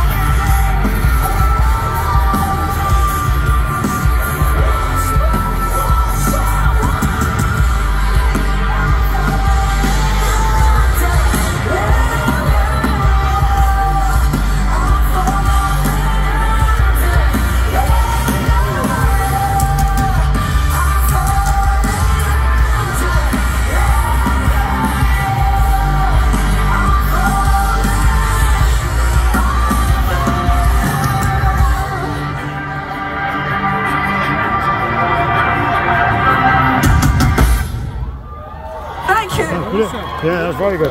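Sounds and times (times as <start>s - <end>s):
heavy bass: 0.0s - 39.3s
live rock band playing: 0.0s - 40.2s.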